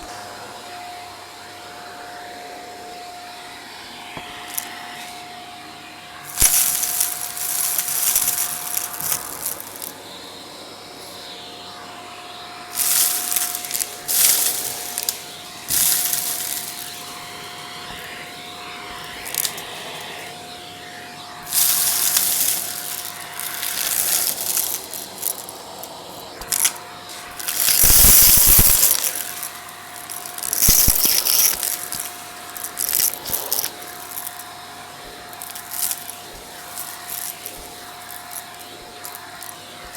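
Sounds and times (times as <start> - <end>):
vacuum cleaner whining: 0.0 - 39.9
brush sucking over stairs: 1.7 - 39.9.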